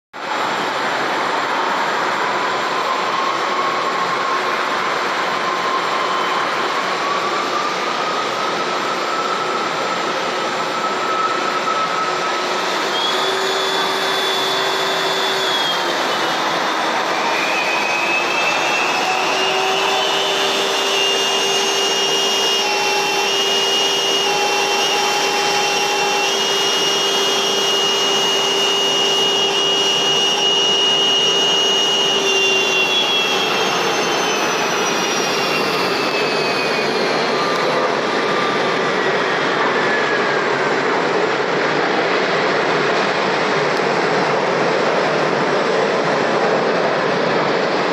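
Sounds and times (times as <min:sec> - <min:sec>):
jet engines roaring with high whine: 0:00.2 - 0:47.9.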